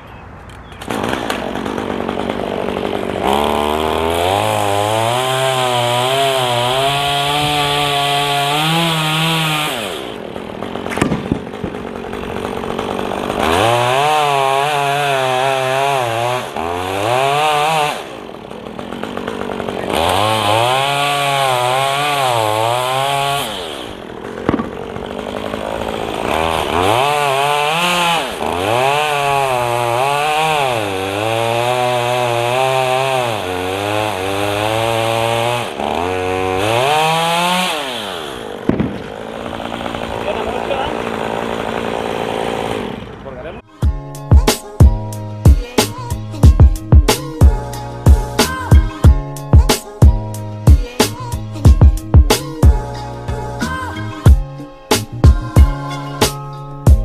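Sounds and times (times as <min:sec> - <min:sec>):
chainsaw cutting wood: 0:00.5 - 0:57.0.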